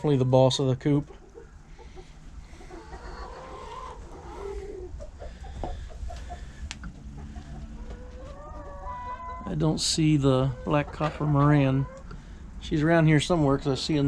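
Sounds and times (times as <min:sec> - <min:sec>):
hens clucking softly: 0:00.8 - 0:14.0.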